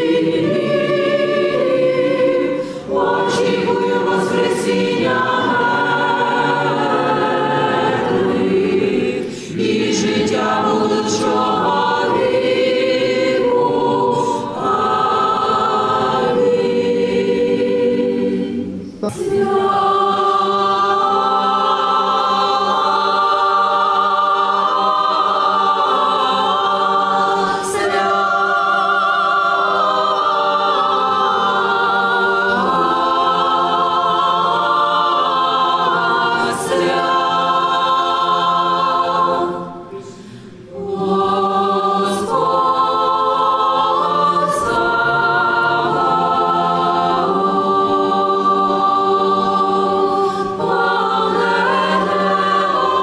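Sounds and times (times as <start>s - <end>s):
choir singing a hymn: 0.0s - 53.0s.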